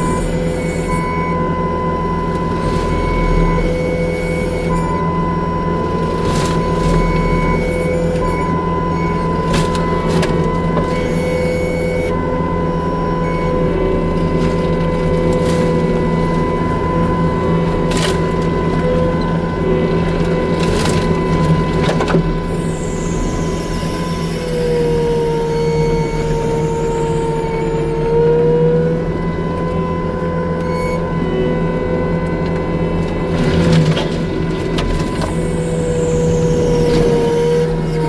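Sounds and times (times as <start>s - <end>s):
higher tone dipping in pitch: 0.0s - 21.6s, 22.3s - 33.4s
skid steer engine humming: 0.0s - 38.0s.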